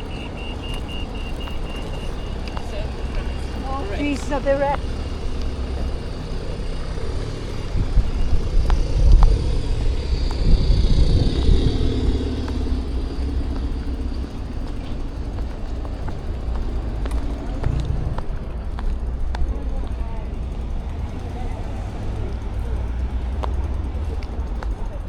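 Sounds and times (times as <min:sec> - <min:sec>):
street traffic rumble: 0:00.0 - 0:25.0
vehicle passing: 0:00.0 - 0:25.0.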